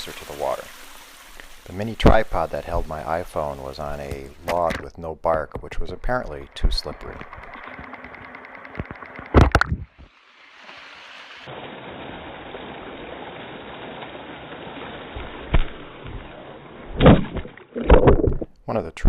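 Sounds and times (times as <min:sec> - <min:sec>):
rushing water: 0:00.0 - 0:04.9, 0:05.6 - 0:18.5.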